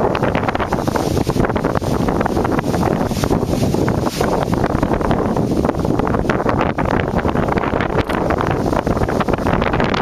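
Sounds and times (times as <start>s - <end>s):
strong wind on microphone: 0.0s - 10.0s.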